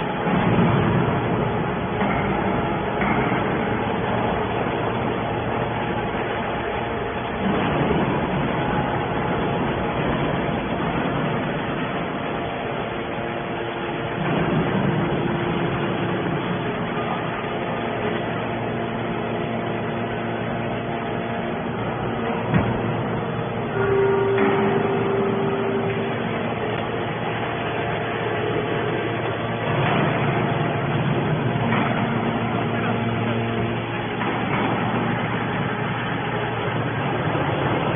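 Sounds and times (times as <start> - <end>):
scrap baler mechanical noise: 0.0 - 37.9.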